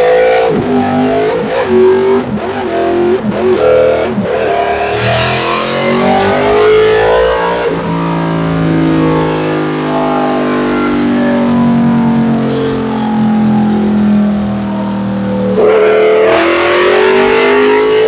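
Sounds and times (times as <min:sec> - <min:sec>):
motorcycle engine revving: 0:00.0 - 0:12.5, 0:13.4 - 0:18.0.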